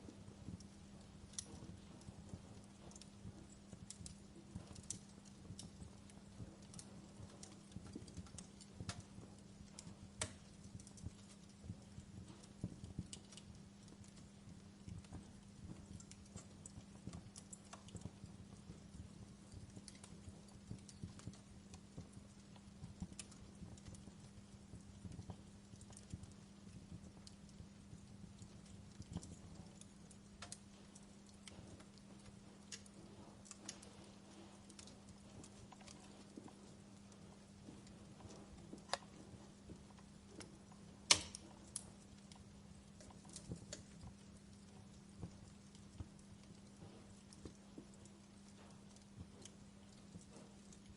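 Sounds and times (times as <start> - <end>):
steady low hum: 0.0 - 50.9
wood fire crackling: 0.0 - 50.9.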